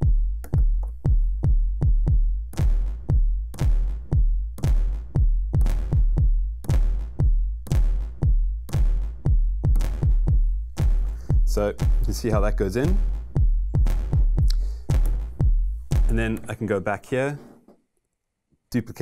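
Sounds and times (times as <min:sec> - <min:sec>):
drum machine kick: 0:00.0 - 0:16.6.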